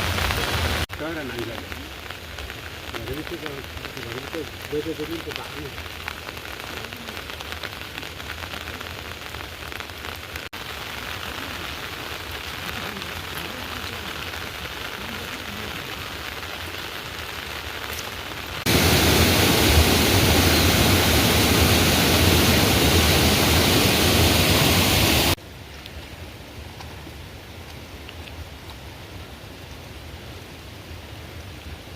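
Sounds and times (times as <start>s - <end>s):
heavy rain falling: 0.0s - 31.9s
loud dense downpour: 0.0s - 31.9s.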